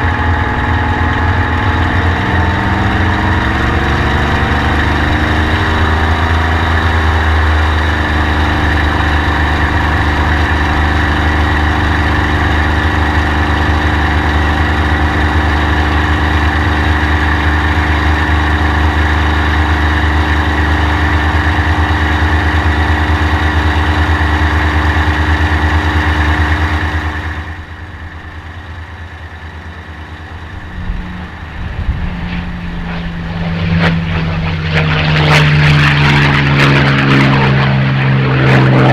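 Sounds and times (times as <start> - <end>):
propeller plane engine running: 0.0 - 38.9.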